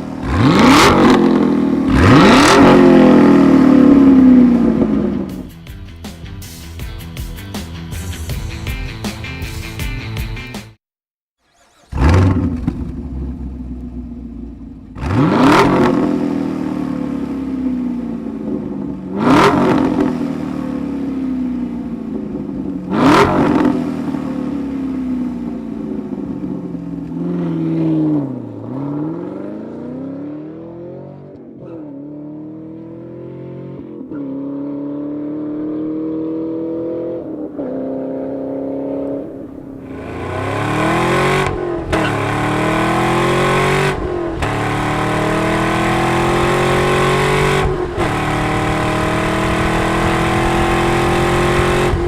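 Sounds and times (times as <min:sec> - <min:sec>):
car engine revving and accelerating: 0:00.0 - 0:05.4, 0:11.7 - 0:52.0.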